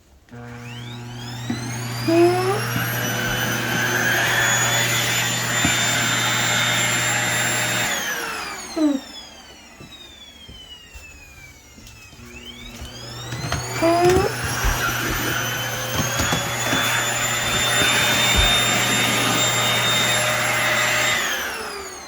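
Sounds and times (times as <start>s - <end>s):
vacuum cleaner motor whining: 0.0s - 22.0s.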